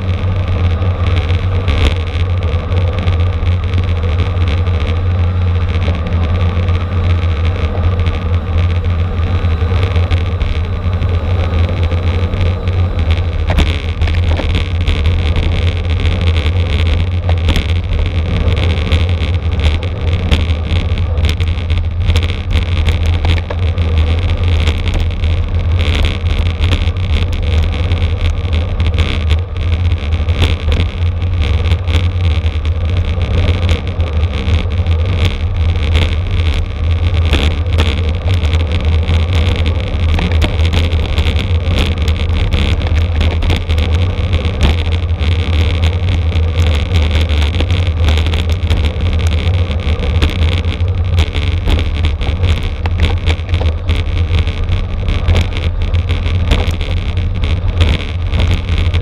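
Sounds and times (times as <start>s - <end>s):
road and drivetrain noise: 0.0s - 59.0s
wind rushing on microphone: 0.0s - 59.0s.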